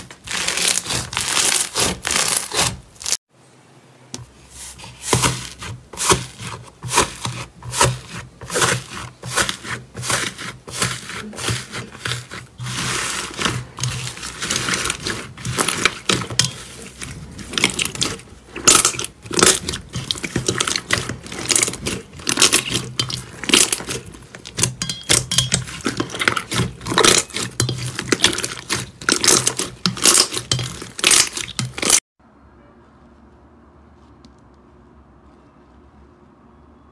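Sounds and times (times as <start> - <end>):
slime squishing and crackling: 0.0 - 3.2, 5.0 - 32.0.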